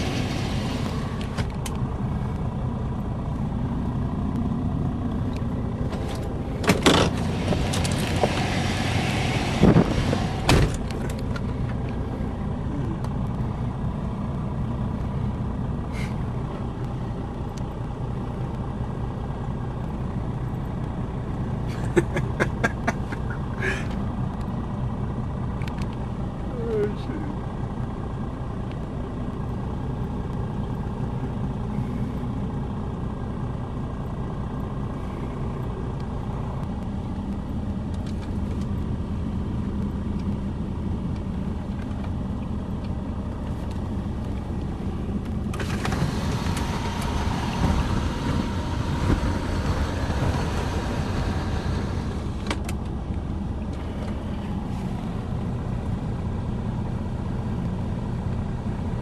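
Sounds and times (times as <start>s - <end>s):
motor vehicle engine rumbling: 0.0s - 59.0s.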